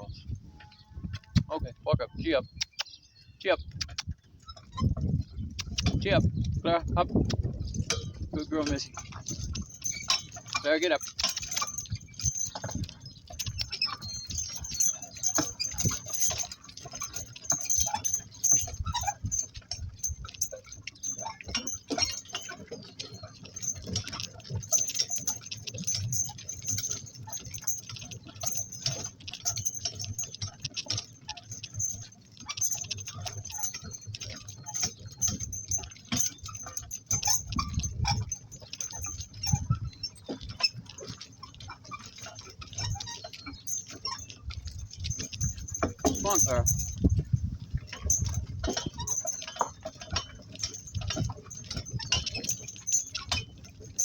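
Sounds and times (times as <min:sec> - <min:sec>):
harness fittings jingling: 0:00.0 - 0:54.0
hooves: 0:00.0 - 0:54.0
cart knocks and clicks: 0:03.7 - 0:54.0.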